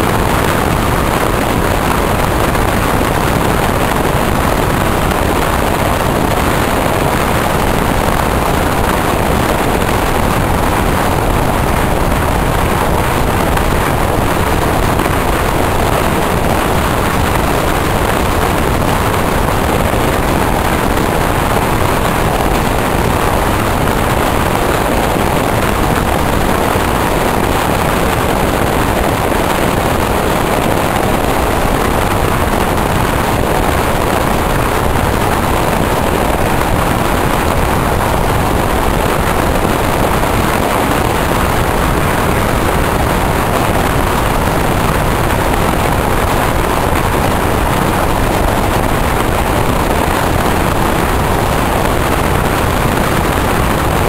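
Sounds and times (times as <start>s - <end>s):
moving train wind rush: 0.0s - 54.0s.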